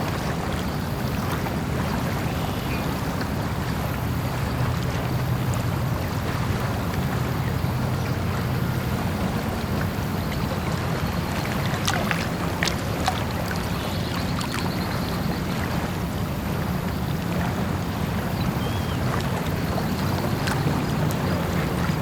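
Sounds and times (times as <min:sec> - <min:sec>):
water washing: 0:00.0 - 0:22.0
wind: 0:00.0 - 0:22.0.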